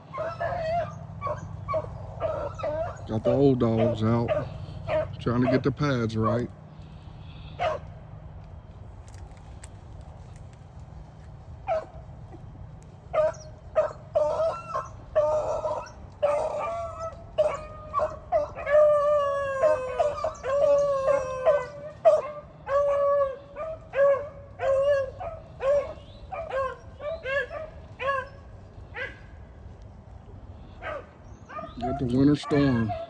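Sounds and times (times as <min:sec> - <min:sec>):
hounds baying and howling: 0:00.0 - 0:08.0, 0:11.6 - 0:33.0.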